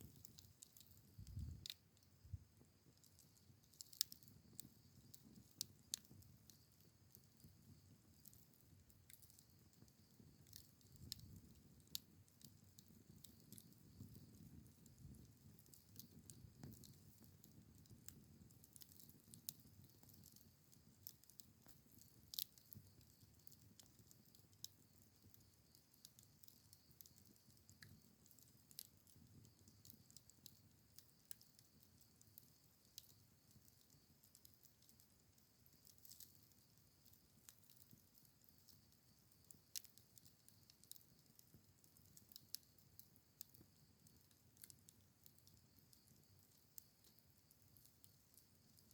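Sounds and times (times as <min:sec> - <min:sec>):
campfire crackling and popping: 0:00.0 - 0:48.9
low rumble of flames: 0:00.0 - 0:48.9.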